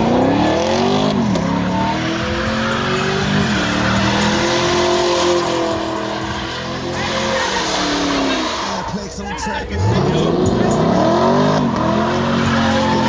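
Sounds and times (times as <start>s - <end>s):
car engine revving hard: 0.0s - 13.0s
tyres screeching: 0.0s - 13.0s.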